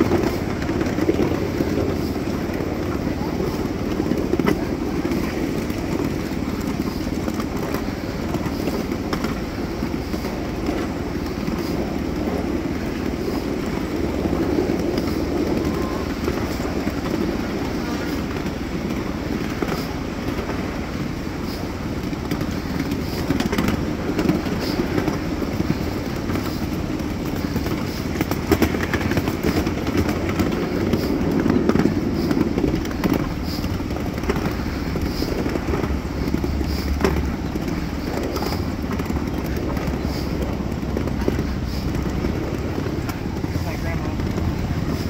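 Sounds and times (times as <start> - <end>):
miniature train rumbling on rails: 0.0 - 45.0.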